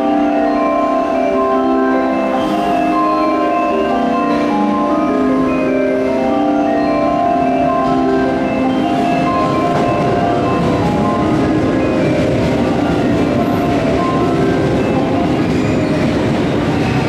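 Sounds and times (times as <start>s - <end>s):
bell-like electronic melody: 0.0s - 17.0s.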